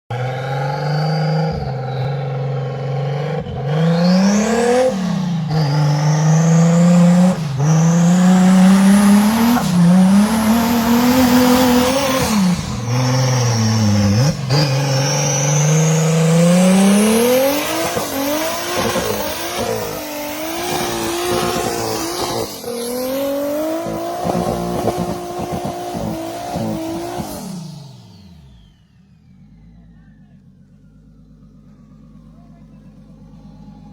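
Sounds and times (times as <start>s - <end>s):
engine revving hard: 0.1s - 30.4s.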